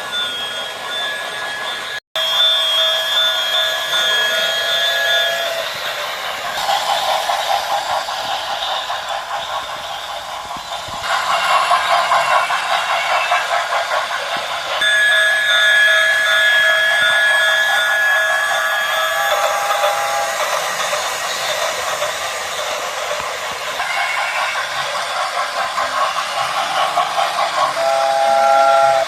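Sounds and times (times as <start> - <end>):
model train clatter: 2.5 - 29.0.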